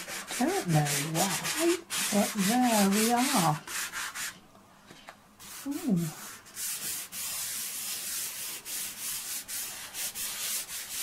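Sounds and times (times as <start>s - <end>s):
pastel rubbing on paper: 0.0s - 4.4s, 5.4s - 11.0s.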